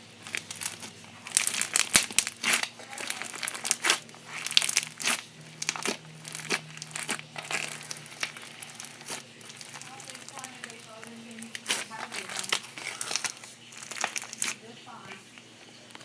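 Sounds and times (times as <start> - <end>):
slime crackling and popping: 0.0 - 16.0.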